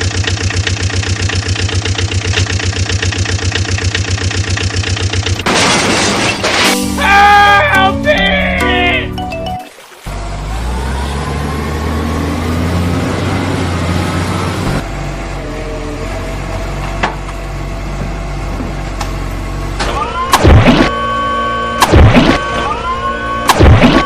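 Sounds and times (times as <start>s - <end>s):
vehicle engine running: 0.0s - 5.6s, 10.1s - 24.0s.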